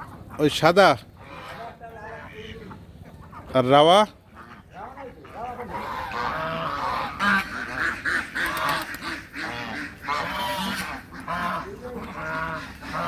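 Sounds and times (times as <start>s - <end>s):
poultry honking and quacking: 0.0s - 13.0s.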